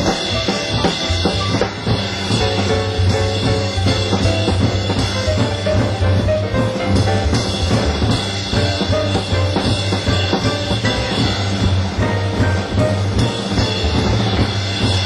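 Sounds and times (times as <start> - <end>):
double bass line: 0.0 - 15.0
loud drum kit: 0.0 - 15.0
piano: 0.0 - 15.0.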